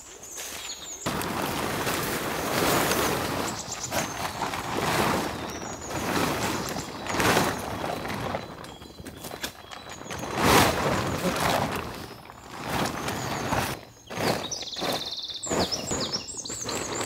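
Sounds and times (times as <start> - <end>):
plastic tarp rustling and crackling: 1.0 - 17.0.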